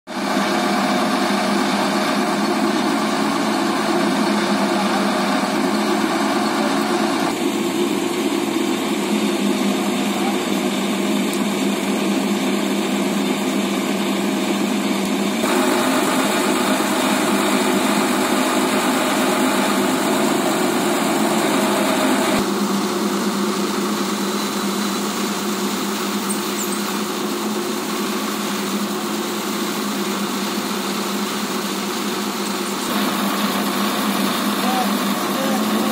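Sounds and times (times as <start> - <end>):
diesel engine idling: 0.2 - 35.9.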